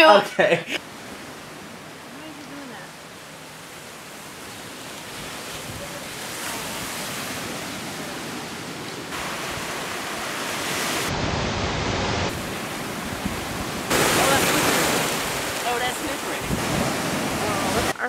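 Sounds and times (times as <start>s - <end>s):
ocean waves breaking: 0.8s - 18.0s.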